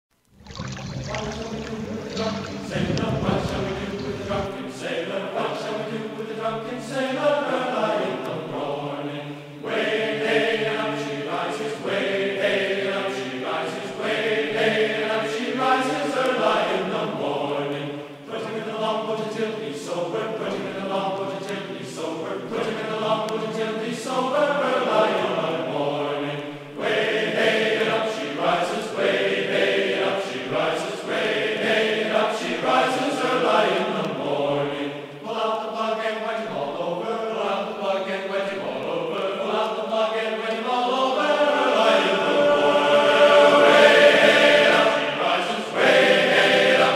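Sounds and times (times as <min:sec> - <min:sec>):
group singing a sea shanty: 0:01.1 - 0:46.9.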